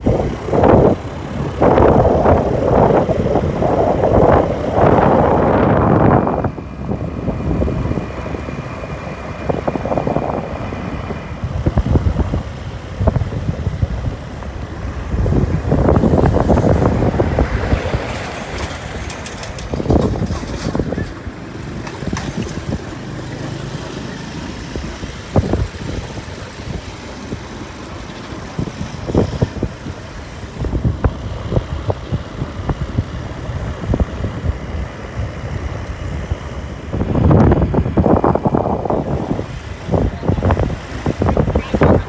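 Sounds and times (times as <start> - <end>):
moving vehicle rumble: 0.0 - 42.0
wind buffeting microphone: 0.0 - 42.0.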